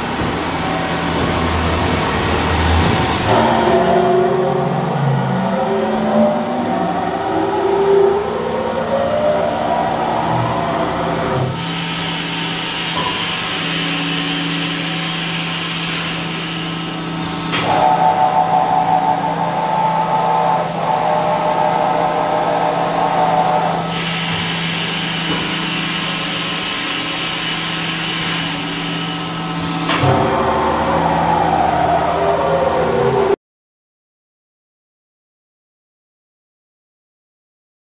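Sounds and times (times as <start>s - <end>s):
high spindle whine: 0.0s - 33.4s
machine spindle hum: 0.0s - 33.4s.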